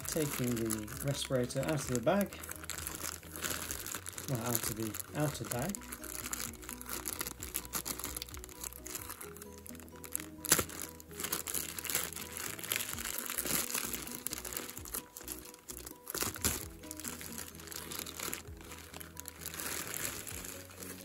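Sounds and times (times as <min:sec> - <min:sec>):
plastic bag crinkling: 0:00.0 - 0:21.0
quiet background music: 0:00.0 - 0:21.0.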